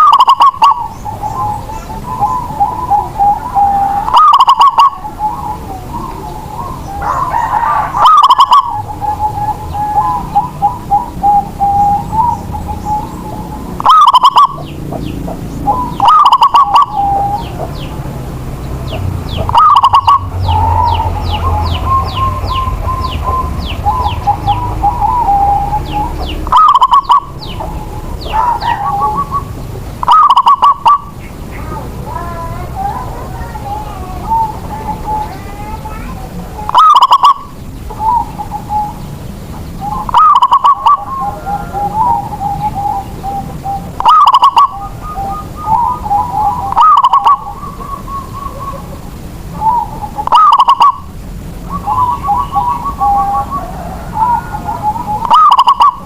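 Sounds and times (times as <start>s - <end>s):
dove cooing: 0.0s - 56.0s
small birds chirping: 0.0s - 56.0s.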